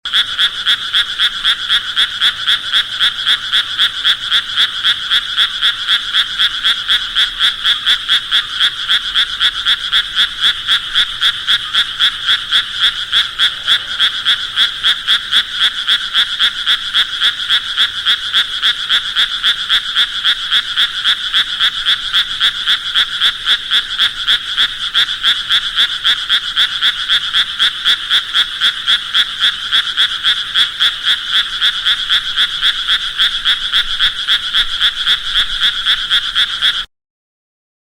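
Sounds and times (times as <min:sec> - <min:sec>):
frog calling rapidly: 0:00.1 - 0:36.9.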